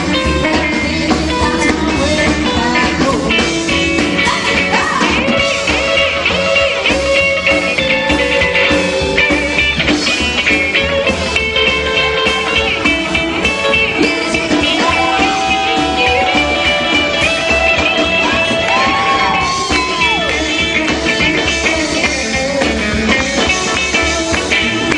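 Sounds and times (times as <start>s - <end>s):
electric guitar sliding lead: 0.0s - 24.9s
rockabilly band playing live: 0.0s - 24.9s.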